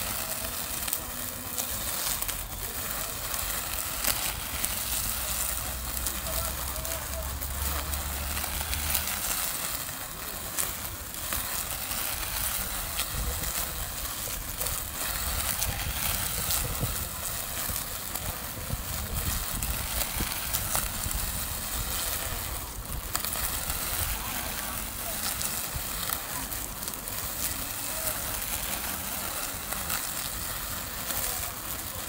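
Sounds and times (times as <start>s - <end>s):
string trimmer cutting grass: 0.0s - 32.0s.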